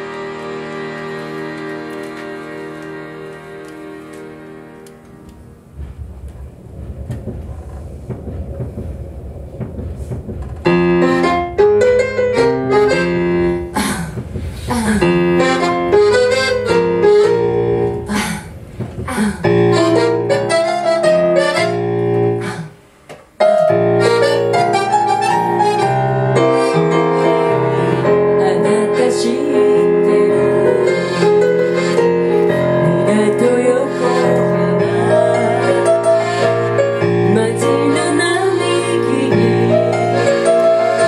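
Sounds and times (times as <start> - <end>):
accordion held chords: 0.0 - 5.7, 11.0 - 18.1, 19.5 - 22.4, 23.5 - 41.0
piano chords: 0.0 - 41.0.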